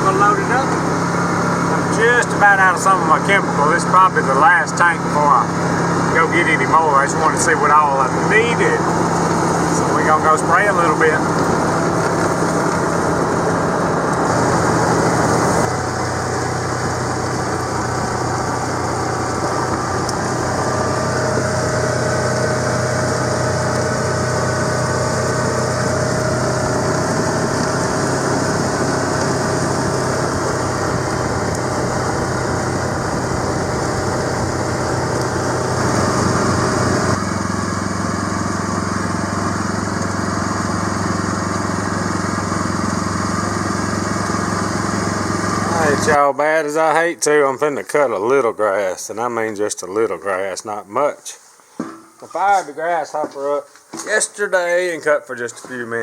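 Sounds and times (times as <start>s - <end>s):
engine running: 0.0s - 46.2s.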